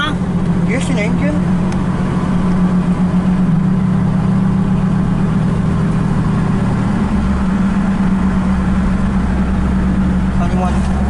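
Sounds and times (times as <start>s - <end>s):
deep rumble: 0.0s - 11.0s
engine running: 0.0s - 11.0s.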